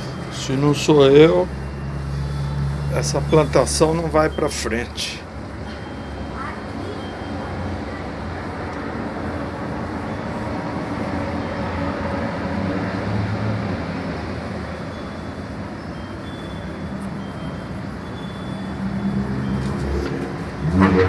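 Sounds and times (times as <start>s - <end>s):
urban traffic rumble: 0.0s - 21.0s.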